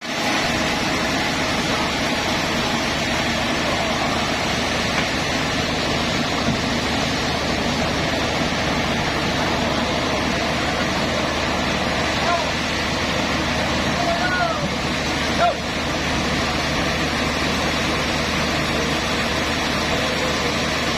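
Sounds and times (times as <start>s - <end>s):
sawmill machinery running: 0.0s - 20.9s.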